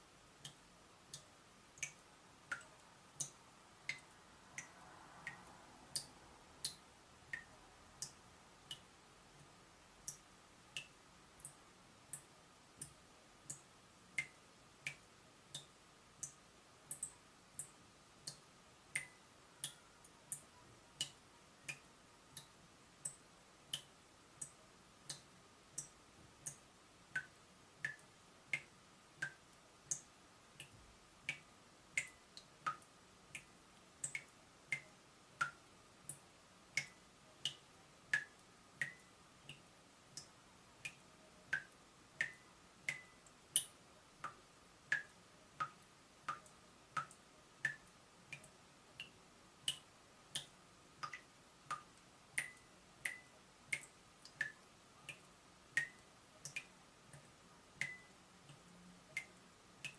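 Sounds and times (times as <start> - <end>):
water dripping from tap: 0.4 - 59.9.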